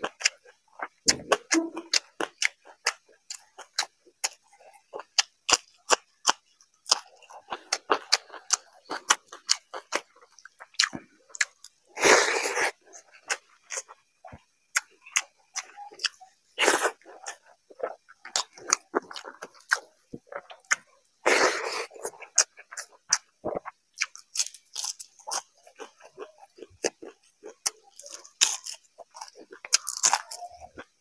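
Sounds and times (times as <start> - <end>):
person crunching food: 0.0 - 31.0.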